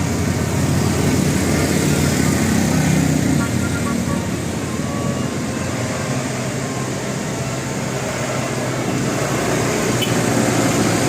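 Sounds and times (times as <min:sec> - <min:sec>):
road noise: 0:00.0 - 0:11.0
vehicle engine: 0:00.0 - 0:11.0.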